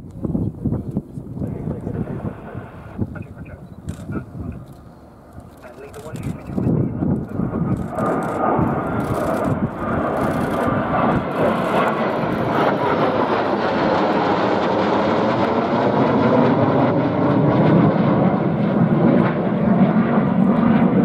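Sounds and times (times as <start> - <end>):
jets flying over: 0.0 - 21.0.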